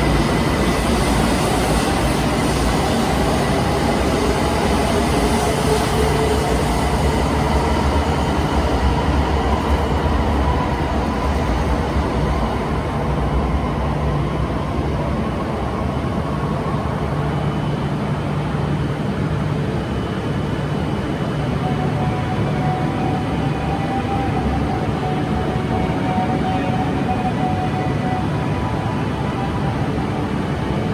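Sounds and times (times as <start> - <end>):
train electric hum and rushing: 0.0 - 30.9.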